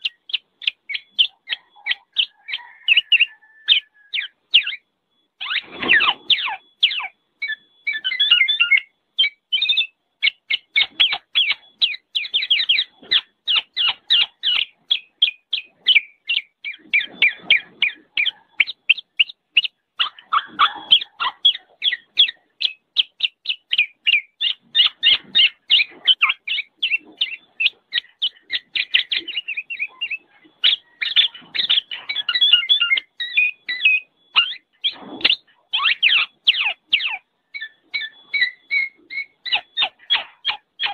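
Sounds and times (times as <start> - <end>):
oriole calling: 0.0 - 40.9.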